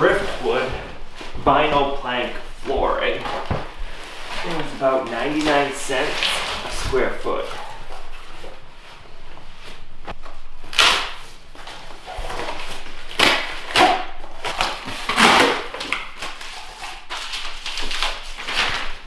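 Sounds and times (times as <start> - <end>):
packaging rustling: 0.0 - 19.0.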